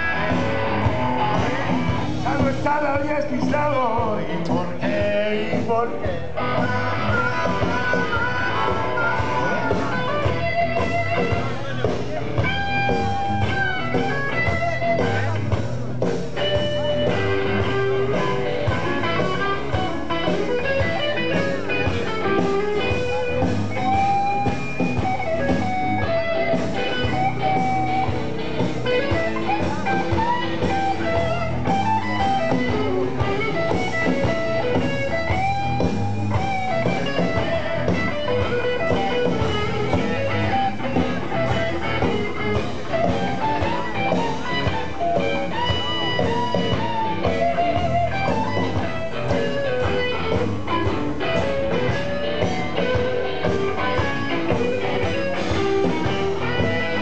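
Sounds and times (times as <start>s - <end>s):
bass: 0.0s - 57.0s
drums: 0.0s - 57.0s
electric guitar lead: 0.0s - 57.0s.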